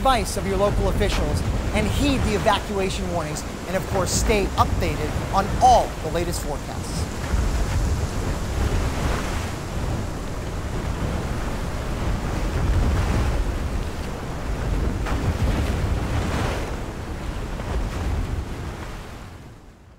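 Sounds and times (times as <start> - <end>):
floodwater rushing and churning: 0.0 - 19.9
wind: 0.0 - 19.9.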